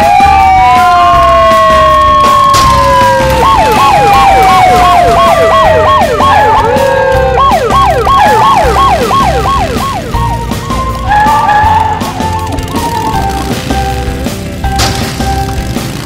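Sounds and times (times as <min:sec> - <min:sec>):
siren-like cartoon whistle: 0:00.0 - 0:13.4
long falling tone: 0:00.0 - 0:15.6
low beat of background music: 0:00.0 - 0:16.0.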